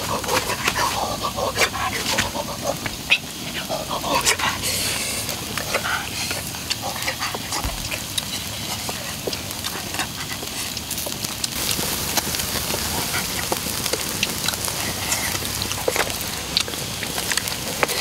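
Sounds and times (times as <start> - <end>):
outdoor background hiss: 0.0 - 18.0
wood fire crackling and popping: 0.0 - 18.0.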